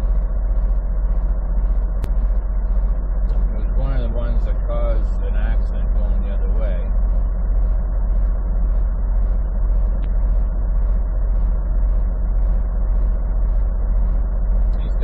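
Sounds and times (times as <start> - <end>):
diesel engine idling: 0.0 - 15.0
light ticking: 0.0 - 15.0.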